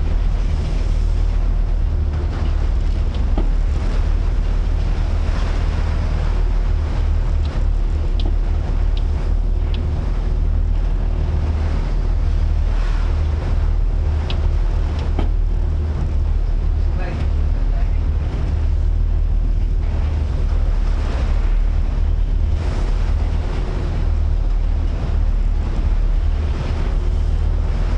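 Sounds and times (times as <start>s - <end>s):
rough sea waves: 0.0s - 27.9s
wind buffeting microphone: 0.0s - 27.9s.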